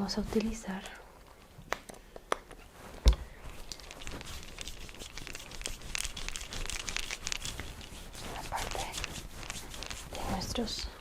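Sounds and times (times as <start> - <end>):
skin and fabric rustling: 0.0 - 1.5, 2.4 - 11.0.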